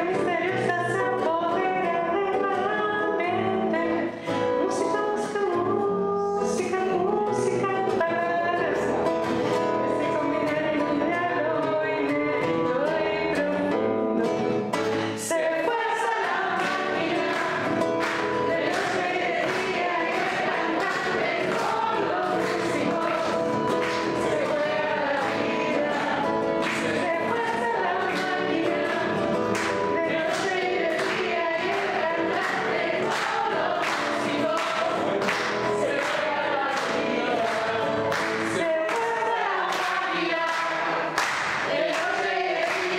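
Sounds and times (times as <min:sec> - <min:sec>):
woman and man singing: 0:00.0 - 0:09.1, 0:09.9 - 0:14.4, 0:15.0 - 0:17.6, 0:18.5 - 0:42.9
acoustic guitar strumming: 0:00.0 - 0:42.9.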